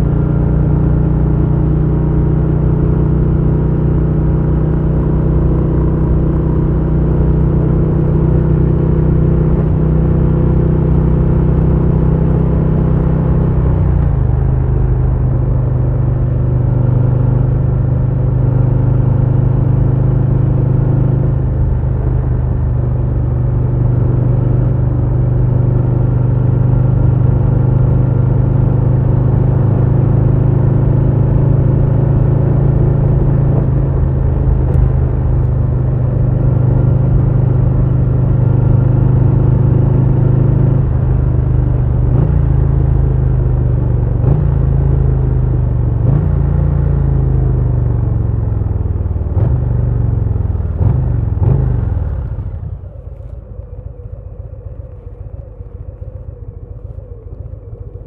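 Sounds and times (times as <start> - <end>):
motorcycle engine deep exhaust: 0.0 - 58.0.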